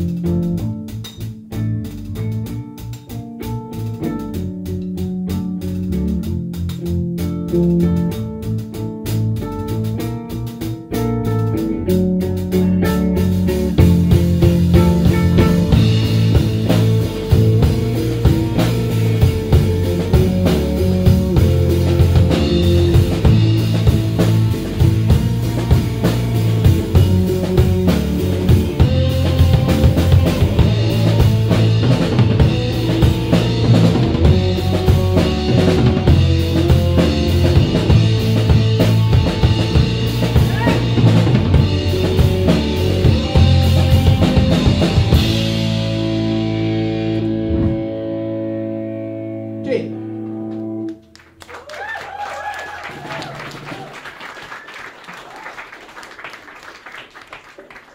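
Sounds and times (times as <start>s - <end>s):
drum kit beat: 0.0s - 48.2s
electric bass: 0.0s - 51.4s
live rock band playing: 0.0s - 51.4s
electric guitar: 0.0s - 54.0s.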